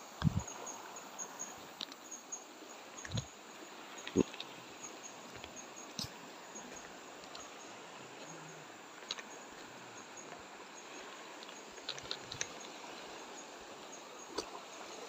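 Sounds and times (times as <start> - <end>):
faint high insect chirp: 0.0 - 15.0.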